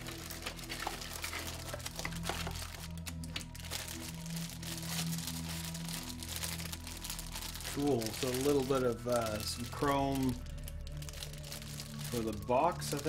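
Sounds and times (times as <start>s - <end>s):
background music with low notes: 0.0s - 13.0s
plastic bag crinkling: 0.0s - 13.0s.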